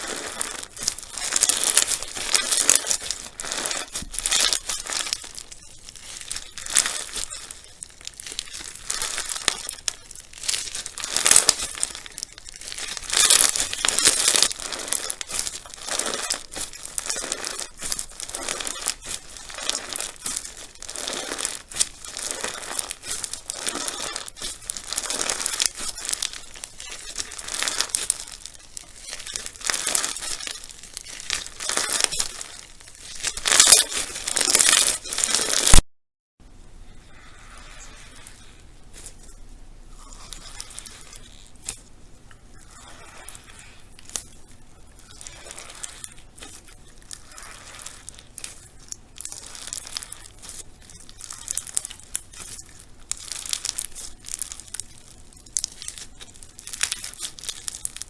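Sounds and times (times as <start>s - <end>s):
slime crackling and popping: 0.0s - 35.9s, 36.8s - 58.0s.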